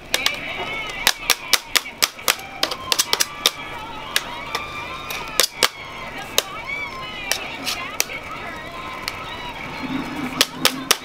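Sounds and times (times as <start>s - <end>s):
candy scrapers knocking and scraping: 0.0s - 11.0s.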